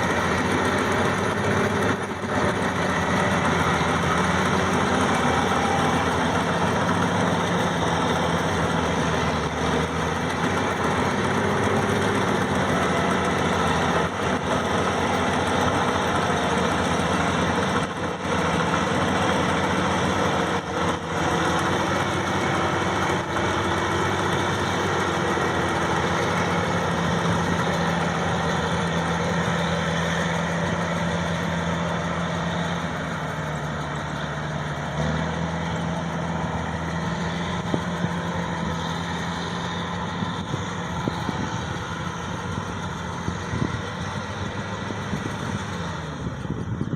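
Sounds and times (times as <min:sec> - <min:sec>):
combine harvester engine drone: 0:00.0 - 0:46.9.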